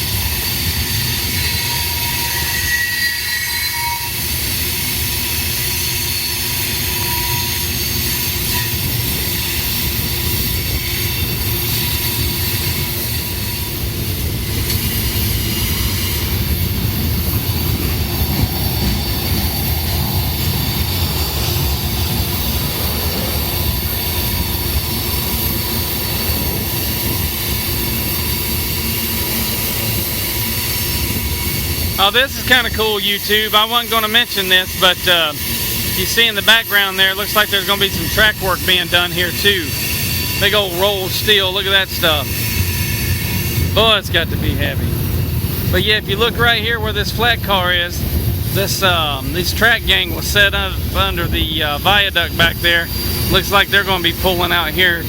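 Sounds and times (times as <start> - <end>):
high-pitched wheel squeal: 0.0 - 46.4
train wheels rumbling on rails: 0.0 - 55.0.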